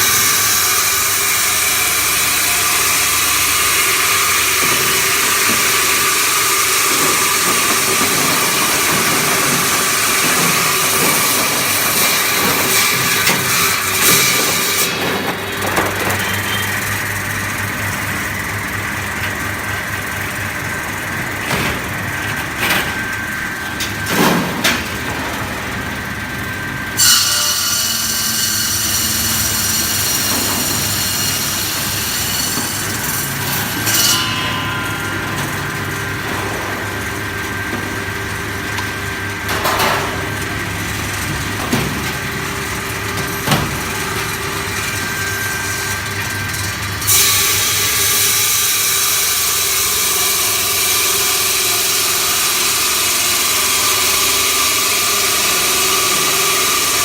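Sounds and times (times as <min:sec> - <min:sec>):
ice cutting machine motor hum: 0:00.0 - 0:57.0.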